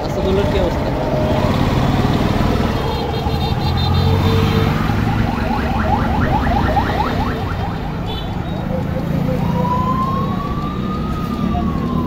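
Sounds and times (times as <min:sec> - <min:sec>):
fast repeating rising siren tone: 0:01.0 - 0:12.0.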